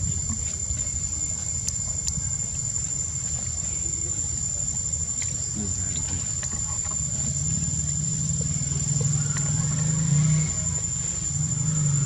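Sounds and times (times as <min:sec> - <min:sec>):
high-pitched insect drone: 0:00.0 - 0:12.0
low steady hum: 0:00.0 - 0:12.0.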